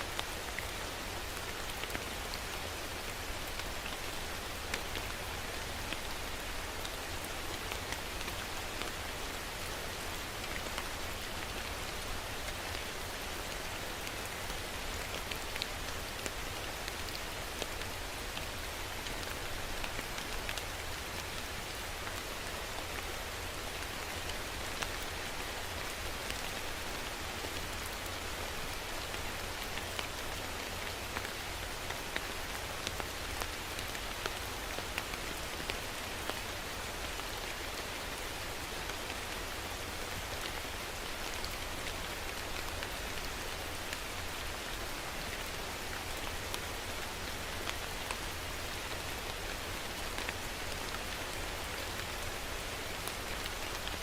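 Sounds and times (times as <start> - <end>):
rain hiss: 0.0 - 54.0
raindrops ticking on a surface: 0.1 - 54.0.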